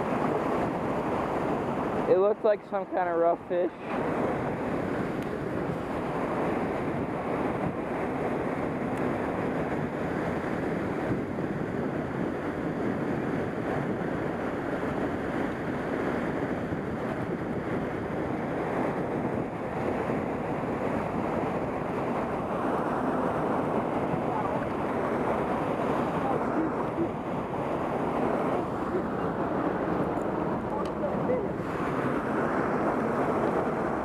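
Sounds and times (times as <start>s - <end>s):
river water rushing: 0.0s - 11.2s, 17.9s - 34.0s.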